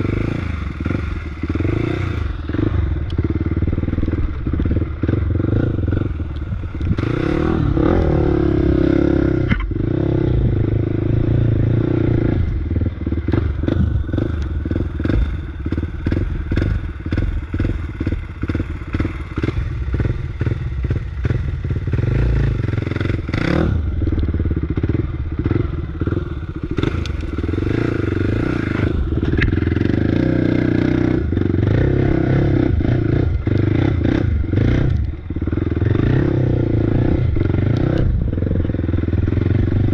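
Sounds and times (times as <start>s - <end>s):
off-road motorbike engine revving: 0.0s - 39.9s.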